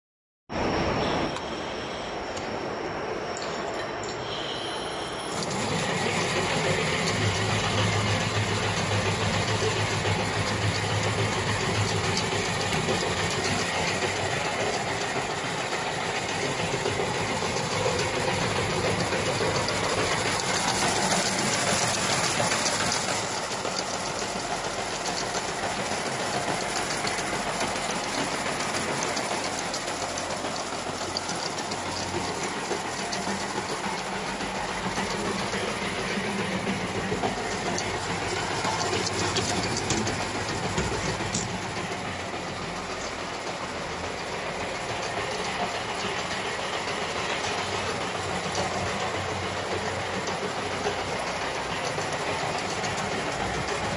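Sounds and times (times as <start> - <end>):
braiding machine clatter: 5.3 - 53.9.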